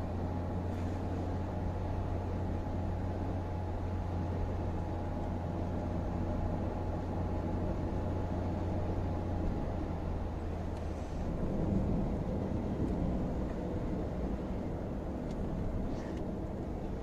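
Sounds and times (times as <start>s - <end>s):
car engine hum: 0.0s - 17.0s
tyre road noise: 0.0s - 17.0s.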